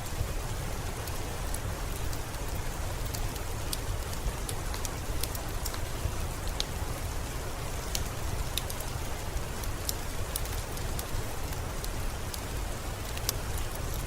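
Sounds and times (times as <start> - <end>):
sharp ticks of raindrops: 0.0 - 14.0
steady rain hiss: 0.0 - 14.0.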